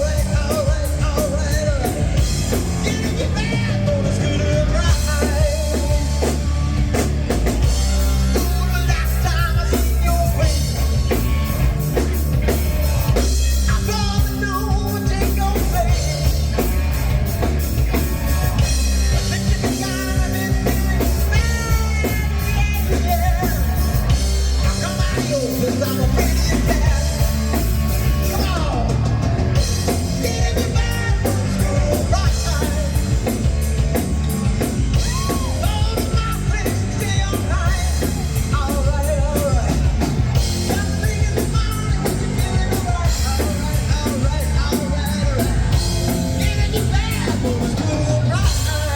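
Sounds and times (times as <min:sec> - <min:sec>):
drum kit: 0:00.0 - 0:48.9
heavy bass line: 0:00.0 - 0:48.9
rock song with singing: 0:00.0 - 0:48.9.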